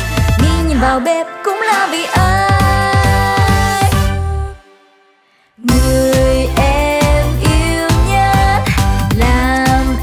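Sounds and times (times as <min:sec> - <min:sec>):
electronic beat: 0:00.0 - 0:04.2, 0:05.7 - 0:10.0.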